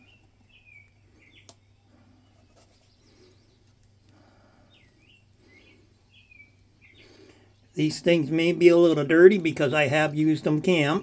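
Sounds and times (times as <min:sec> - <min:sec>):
songbird chirps: 0:00.0 - 0:11.0.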